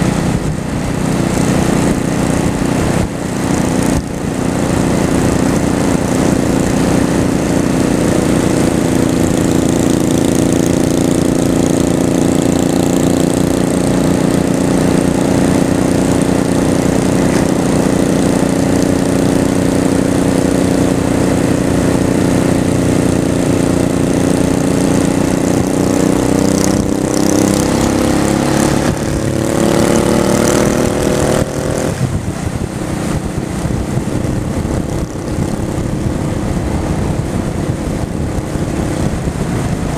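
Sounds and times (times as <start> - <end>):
wind rush: 0.0 - 11.8, 12.8 - 39.9
motorcycle engine cruising: 0.0 - 39.9.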